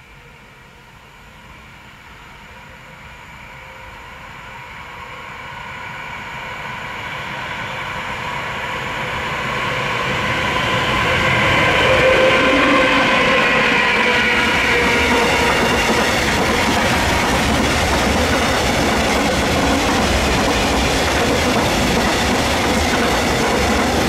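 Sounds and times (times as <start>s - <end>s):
electric locomotive whine: 0.0s - 24.0s
train wheels rumbling on rails: 0.2s - 24.0s.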